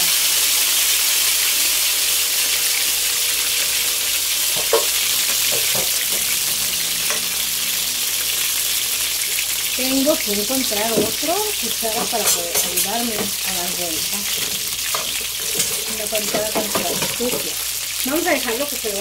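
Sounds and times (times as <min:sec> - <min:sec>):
bread frying in hot oil: 0:00.0 - 0:19.0.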